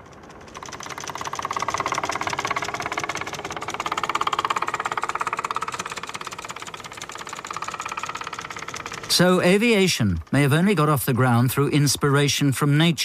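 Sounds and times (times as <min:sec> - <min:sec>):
small plane engine droning overhead: 0:00.0 - 0:12.0.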